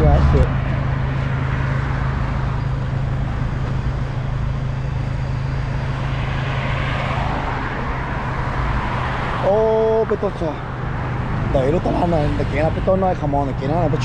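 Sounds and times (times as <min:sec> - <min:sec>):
cars passing close by: 0:00.0 - 0:14.0
steady low hum: 0:00.0 - 0:14.0.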